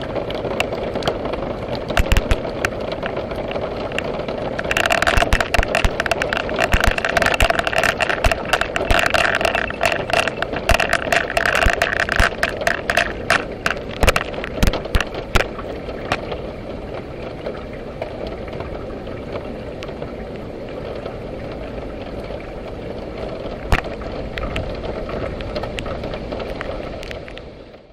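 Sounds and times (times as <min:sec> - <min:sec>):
heavy rain: 0:00.0 - 0:27.9
sharp raindrops striking microphone: 0:00.0 - 0:27.9.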